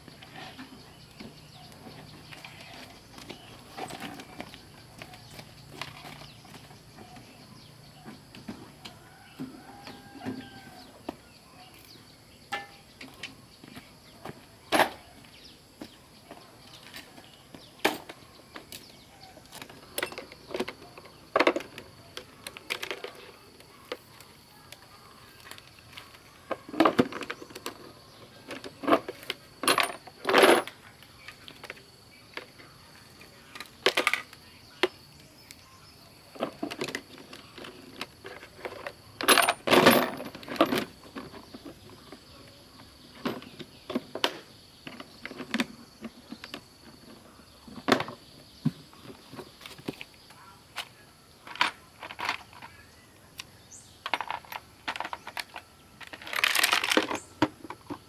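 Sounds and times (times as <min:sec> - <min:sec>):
small hard objects clattering: 0:00.0 - 0:10.7, 0:11.7 - 0:52.9, 0:53.7 - 0:58.0.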